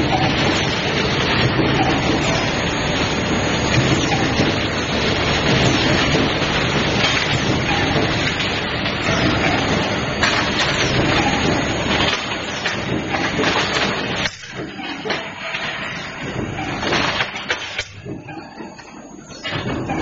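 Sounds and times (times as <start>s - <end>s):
forging machinery clattering: 0.0s - 20.0s.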